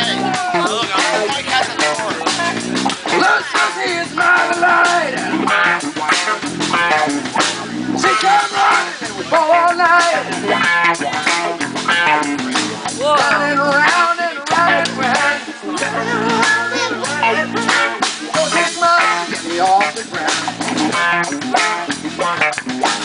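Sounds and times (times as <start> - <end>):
lead vocalist singing: 0.0 - 7.2, 7.9 - 12.1, 12.8 - 21.5
drum kit: 0.0 - 23.0
electric guitars: 0.0 - 23.0.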